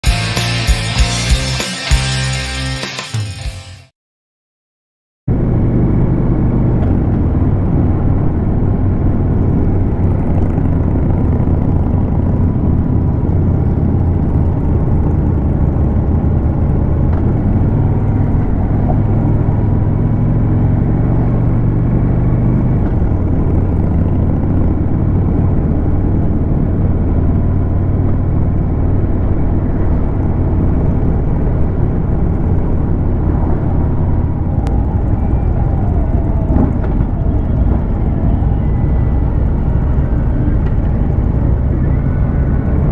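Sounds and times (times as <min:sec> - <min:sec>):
motorcycle engine cruising: 0:05.3 - 0:42.9
wind rushing over microphone: 0:05.3 - 0:42.9.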